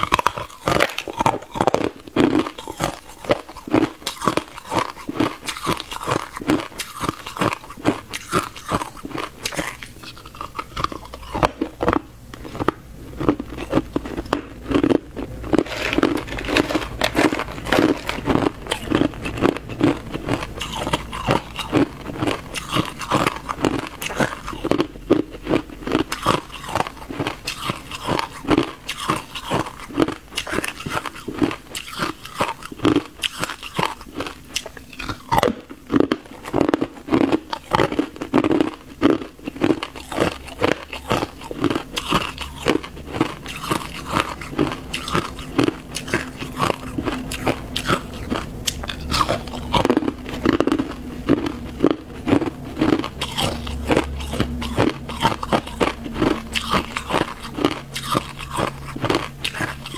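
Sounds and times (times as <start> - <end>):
person crunching ice: 0.0 - 59.9.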